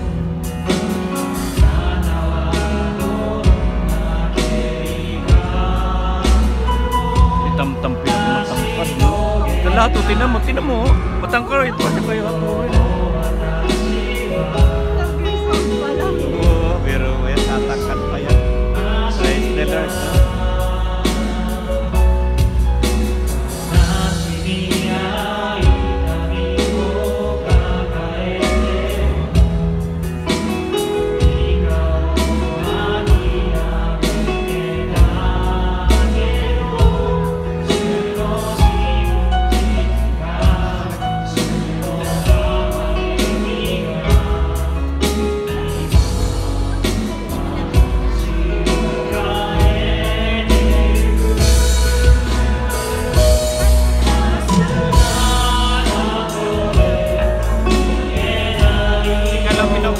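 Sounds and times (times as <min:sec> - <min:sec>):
bass: 0:00.0 - 0:59.9
group singing a worship song: 0:00.0 - 0:59.9
steady drum beat: 0:00.0 - 0:59.9.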